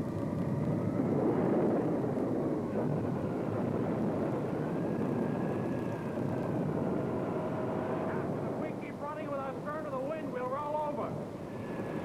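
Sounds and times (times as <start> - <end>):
rushing wind: 0.0 - 12.0
whistling wind: 0.0 - 12.0.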